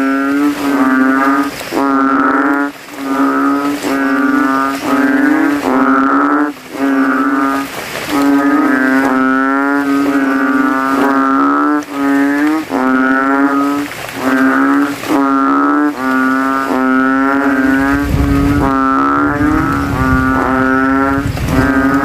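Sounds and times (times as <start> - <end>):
frogs calling deep bass: 0.0 - 22.0.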